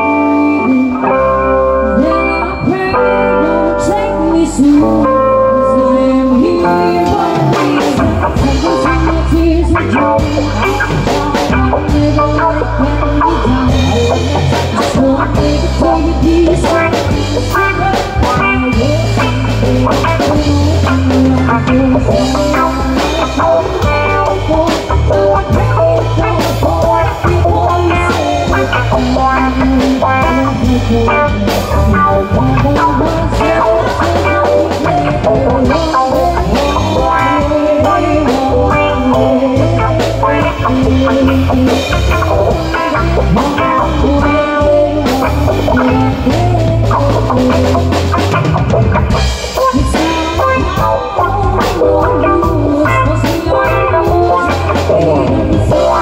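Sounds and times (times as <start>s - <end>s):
guitar: 0.0s - 56.0s
low bass line: 0.0s - 56.0s.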